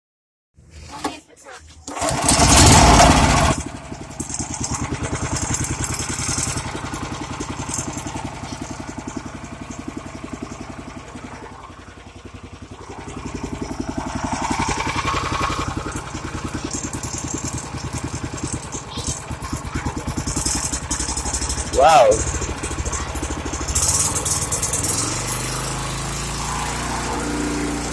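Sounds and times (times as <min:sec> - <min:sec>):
pressure washer engine running: 0:01.9 - 0:27.9.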